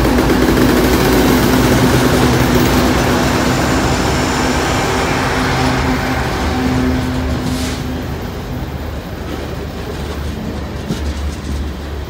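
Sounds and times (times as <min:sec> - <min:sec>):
diesel locomotive engine drone: 0:00.0 - 0:12.0
wheels rumbling on rails: 0:00.0 - 0:12.0.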